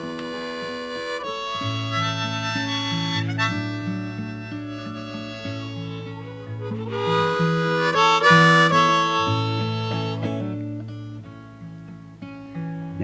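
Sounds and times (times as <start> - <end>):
harmonica playing: 0.0 - 11.4
acoustic guitar: 0.0 - 13.0.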